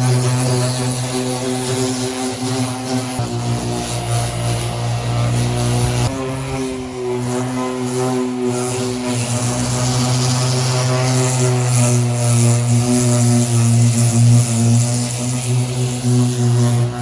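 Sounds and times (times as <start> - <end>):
palm sander humming: 0.0 - 17.0.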